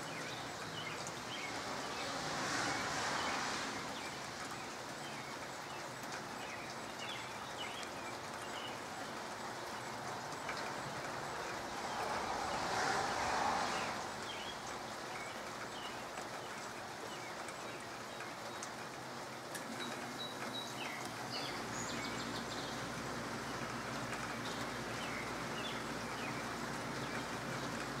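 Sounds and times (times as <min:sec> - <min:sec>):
light rain on leafy trees: 0:00.0 - 0:28.0.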